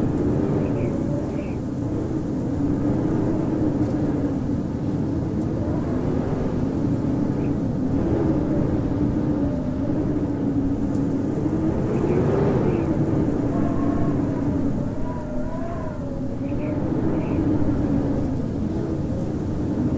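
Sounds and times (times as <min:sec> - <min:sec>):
wind howling: 0:00.0 - 0:19.9.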